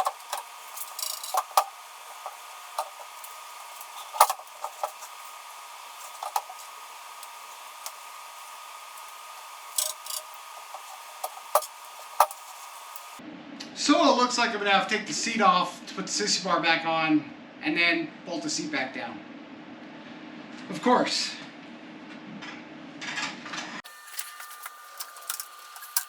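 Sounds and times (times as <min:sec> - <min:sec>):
space heater fan whir: 0:00.0 - 0:26.0.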